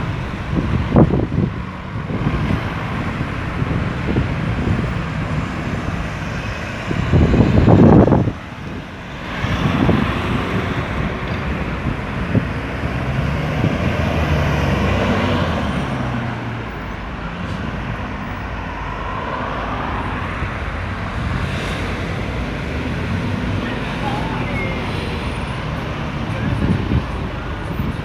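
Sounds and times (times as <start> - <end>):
vehicles driving past: 0.0 - 28.0.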